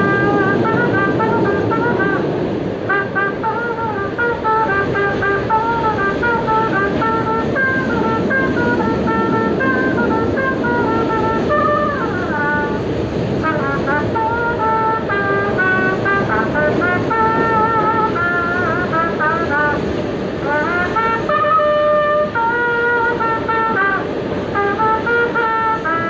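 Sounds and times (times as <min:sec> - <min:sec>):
subway train rumble: 0:00.0 - 0:26.0
trumpet melody: 0:00.0 - 0:26.0.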